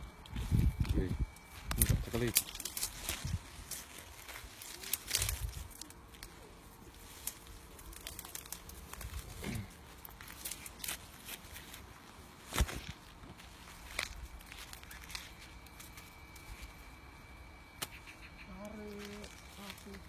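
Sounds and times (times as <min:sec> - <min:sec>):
footsteps in dry undergrowth: 0:00.0 - 0:20.0
twigs snapping and crackling: 0:00.1 - 0:17.0, 0:18.6 - 0:20.0.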